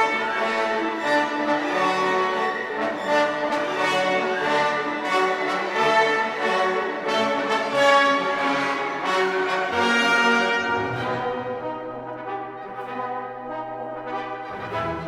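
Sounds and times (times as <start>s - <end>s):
orchestral music led by brass: 0.0s - 15.0s.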